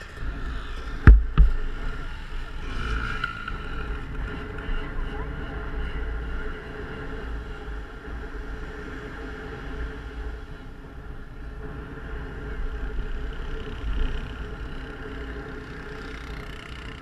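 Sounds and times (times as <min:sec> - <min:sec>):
quad engine running: 0:00.0 - 0:10.4, 0:11.5 - 0:17.0.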